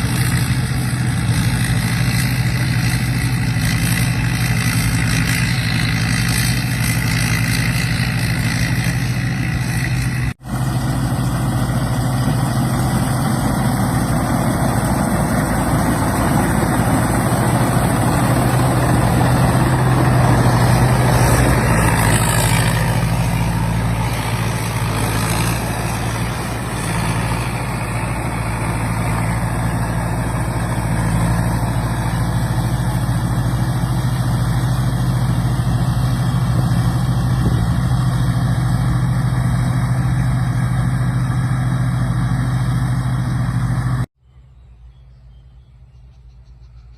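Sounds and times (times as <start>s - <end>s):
diesel engine running: 0.0s - 44.1s.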